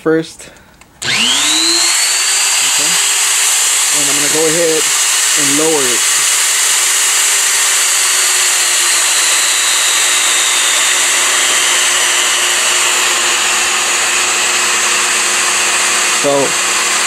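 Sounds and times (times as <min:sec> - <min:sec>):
die grinder motor whine: 0:01.0 - 0:17.0.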